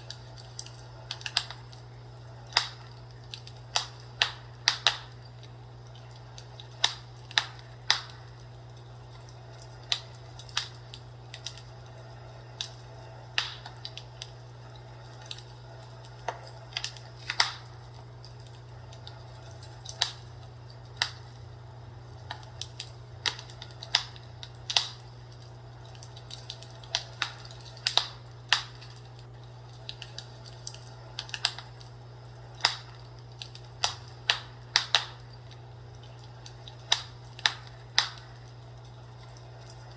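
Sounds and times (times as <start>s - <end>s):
fireplace crackling: 0.0s - 39.9s
steady low hum: 0.0s - 39.9s.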